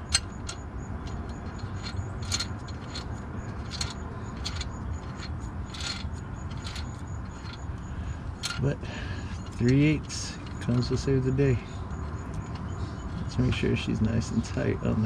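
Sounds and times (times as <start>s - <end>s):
metallic clicks and scrapes of tools: 0.0s - 14.6s
steady low rumble: 0.0s - 15.0s.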